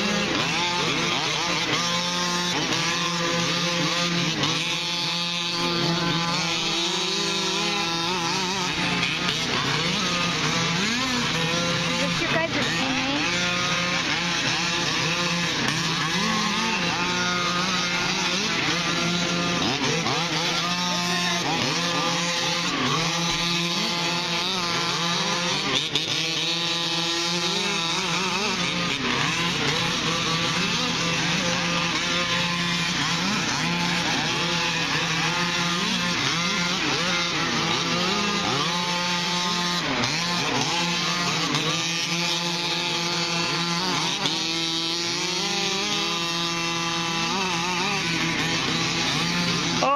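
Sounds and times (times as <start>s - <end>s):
small two-stroke engines revving: 0.0s - 49.9s.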